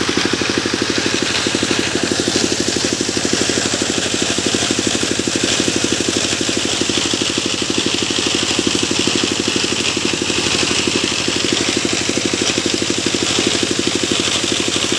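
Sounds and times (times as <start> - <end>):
sawmill engine throbbing: 0.0 - 14.9.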